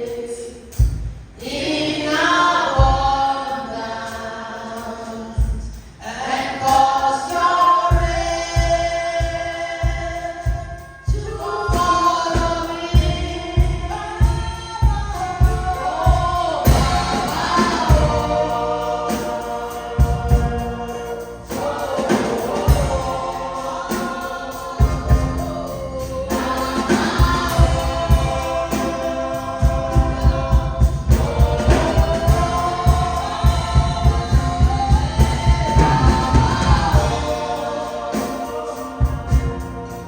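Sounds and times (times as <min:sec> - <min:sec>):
choir singing gospel song: 0:00.0 - 0:40.0
steady drum beat: 0:00.5 - 0:03.3, 0:05.4 - 0:40.0.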